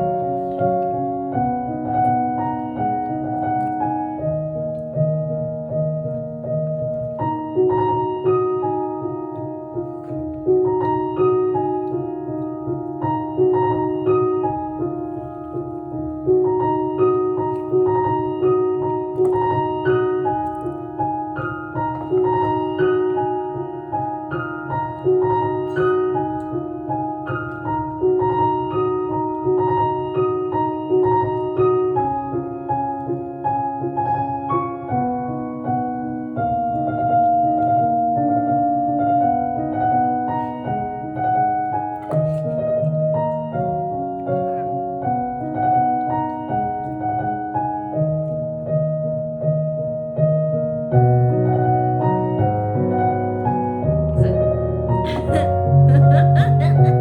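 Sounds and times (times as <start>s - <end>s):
gentle piano music: 0.0s - 57.0s.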